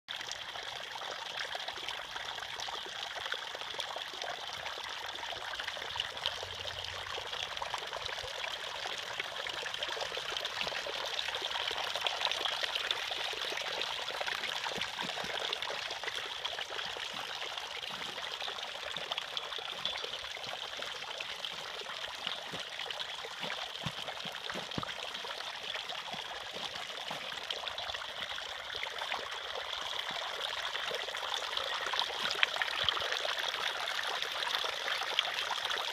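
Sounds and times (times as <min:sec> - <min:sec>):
fountain water trickling and splashing: 0:00.1 - 0:35.9.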